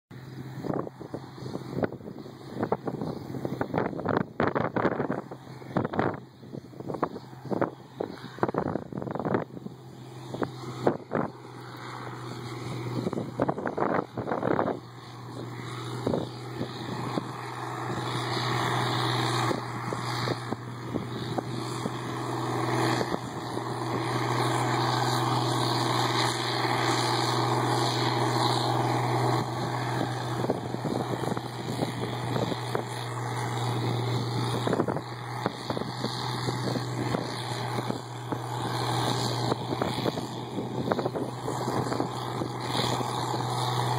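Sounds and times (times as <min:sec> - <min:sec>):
broad noisy rush: 0:00.1 - 0:43.9
combine harvester engine drone: 0:00.1 - 0:43.9.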